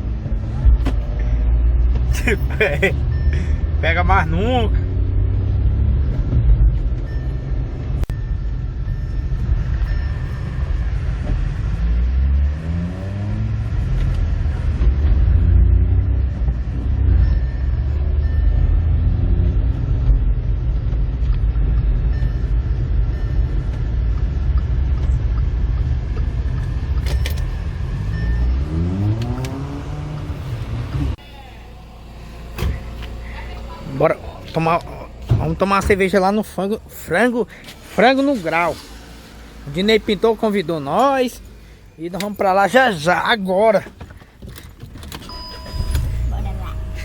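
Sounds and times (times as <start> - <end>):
car engine revving: 0.0 - 43.0, 44.5 - 47.0.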